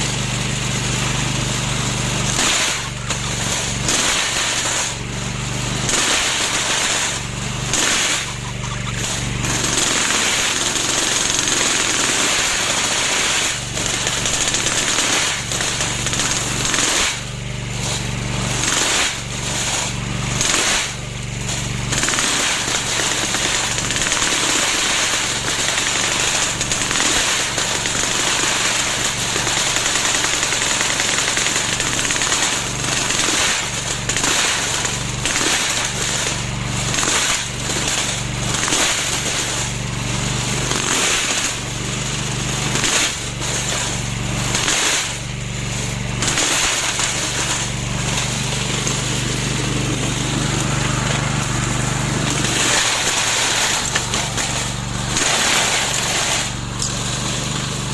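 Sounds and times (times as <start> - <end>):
lawn mower running: 0.0 - 57.9.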